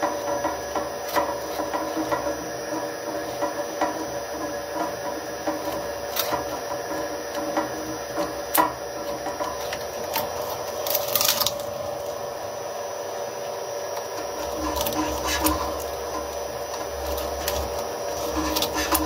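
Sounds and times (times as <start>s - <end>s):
scraping rasp: 0.0s - 11.6s, 14.2s - 19.0s
shredder humming: 0.0s - 19.0s.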